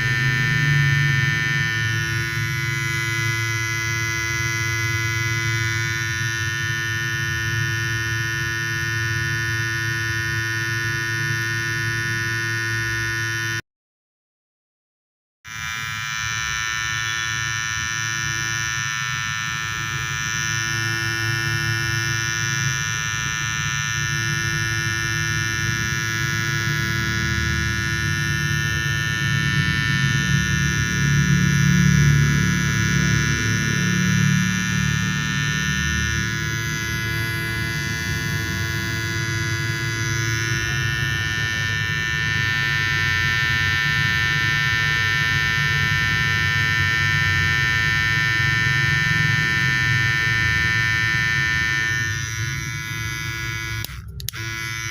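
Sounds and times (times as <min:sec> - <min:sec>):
hair trimmer buzzing: 0:00.0 - 0:13.6, 0:15.5 - 0:54.9.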